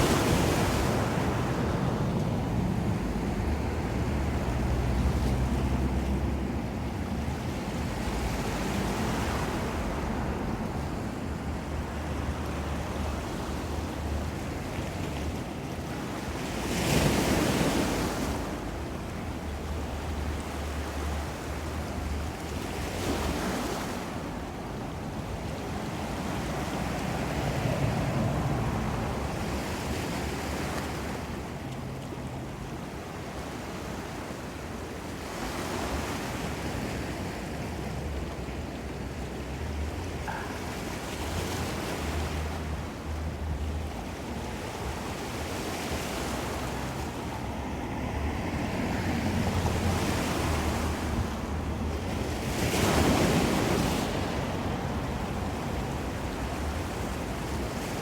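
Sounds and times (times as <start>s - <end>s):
ocean waves breaking: 0.0s - 58.0s
wind rumble on microphone: 0.0s - 58.0s.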